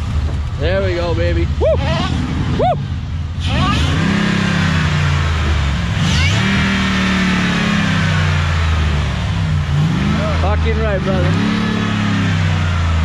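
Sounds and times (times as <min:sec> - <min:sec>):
pickup truck engine revving: 0:00.0 - 0:13.0.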